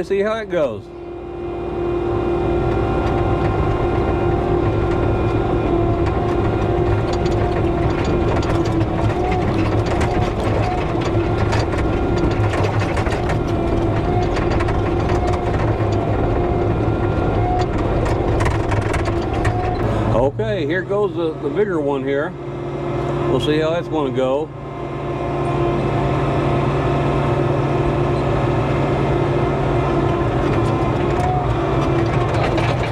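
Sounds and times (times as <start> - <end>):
diesel engine running hard: 0.0 - 32.9
rattling and clanking: 2.6 - 22.3, 25.4 - 32.9.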